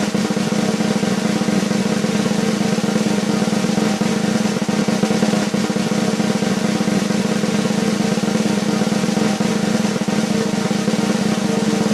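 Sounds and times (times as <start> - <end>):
snare drum roll: 0.0 - 11.9.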